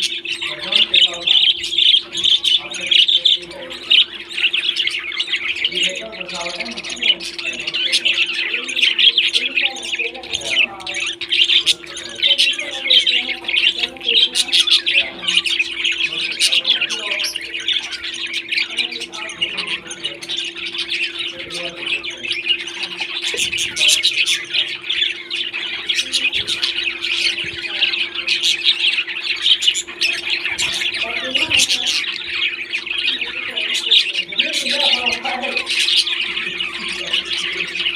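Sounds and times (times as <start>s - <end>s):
parrots chattering and squawking: 0.0s - 37.9s.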